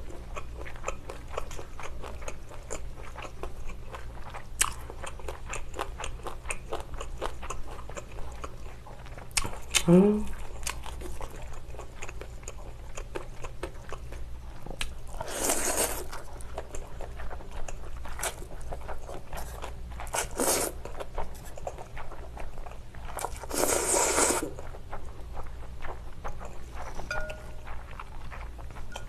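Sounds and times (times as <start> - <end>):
biting and chewing: 0.0 - 29.0.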